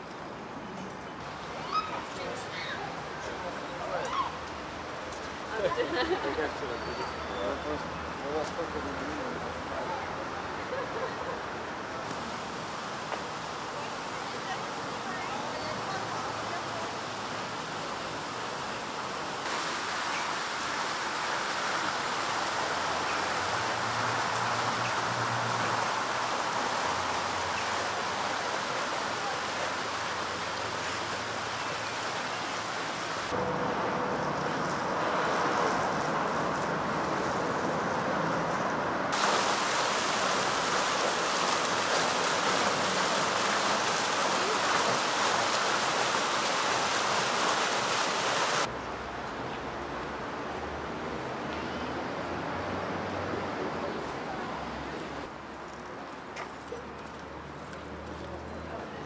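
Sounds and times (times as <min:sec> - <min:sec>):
steady rushing outdoor noise: 0:00.0 - 0:59.0.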